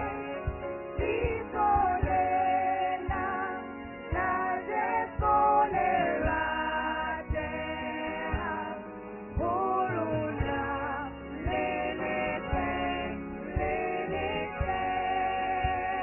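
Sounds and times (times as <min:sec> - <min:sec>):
kick drum beat: 0:00.0 - 0:08.8, 0:09.4 - 0:10.8, 0:11.4 - 0:11.9, 0:12.5 - 0:15.0, 0:15.6 - 0:16.0
bass guitar: 0:00.0 - 0:16.0
women's group singing in harmony: 0:00.0 - 0:16.0.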